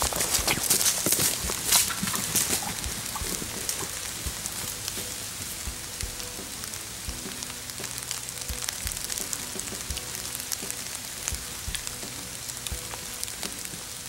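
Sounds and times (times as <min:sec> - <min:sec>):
rain falling on leaves: 0:00.0 - 0:14.0.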